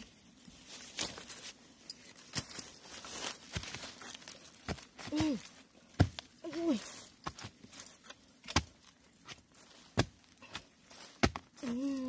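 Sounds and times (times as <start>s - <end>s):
digging tool striking soil and roots: 1.9s - 11.8s.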